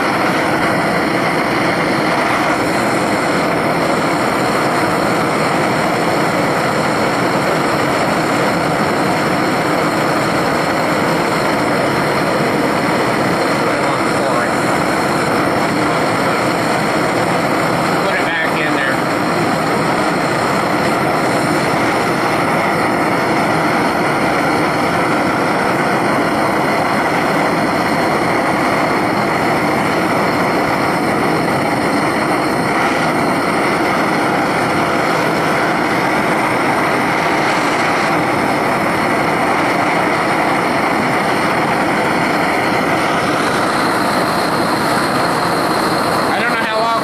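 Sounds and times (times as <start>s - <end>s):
propane torch flame rushing: 0.0s - 47.0s.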